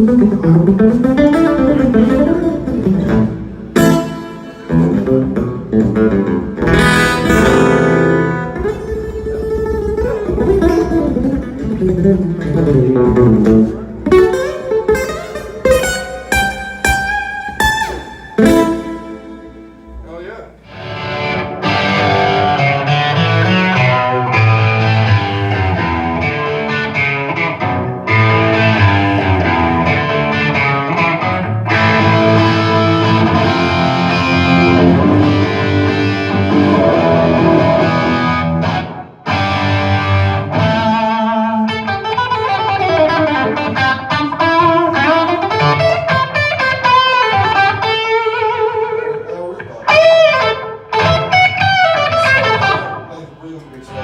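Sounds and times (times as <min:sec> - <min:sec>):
rock band playing live: 0:00.0 - 0:20.0, 0:20.6 - 0:53.1
melodic lead guitar line: 0:00.0 - 0:54.0.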